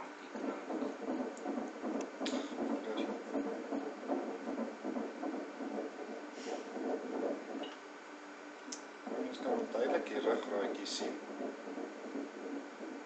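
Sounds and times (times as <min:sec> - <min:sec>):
fetal heartbeat whooshing pulse: 0:00.0 - 0:07.8, 0:09.0 - 0:13.0.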